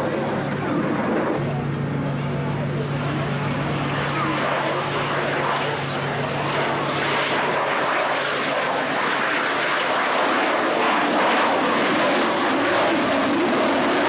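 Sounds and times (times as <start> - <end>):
jet flying past roaring: 0.0 - 14.0.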